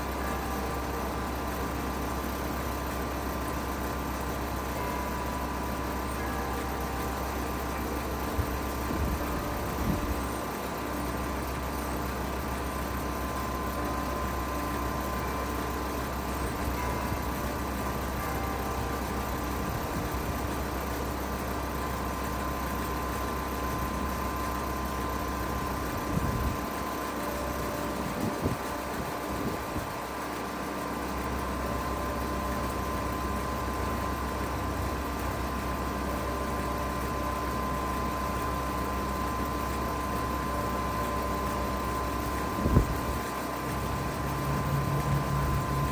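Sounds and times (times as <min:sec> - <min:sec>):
heat pump humming: 0:00.0 - 0:45.9
steady tone: 0:00.0 - 0:45.9.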